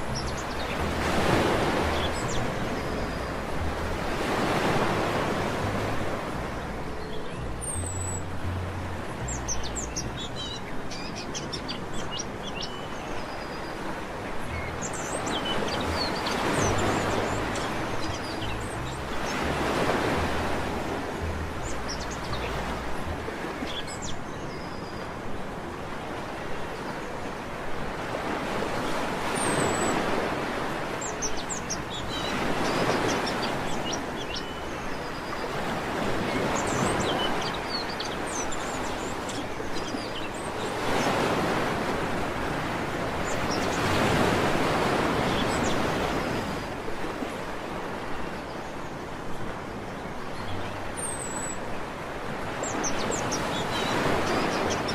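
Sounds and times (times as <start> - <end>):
sea waves washing onto beach: 0.0 - 7.6, 8.2 - 54.9.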